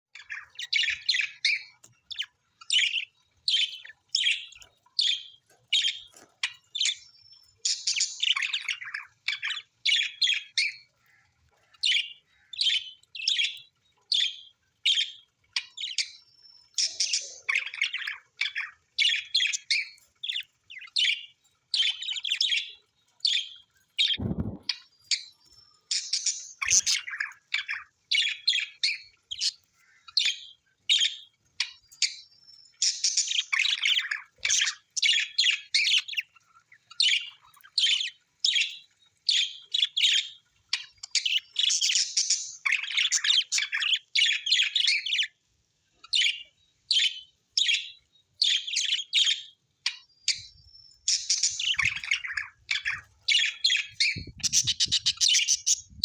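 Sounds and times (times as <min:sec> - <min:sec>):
parrots chirping: 0:00.2 - 0:45.4, 0:46.0 - 0:56.0.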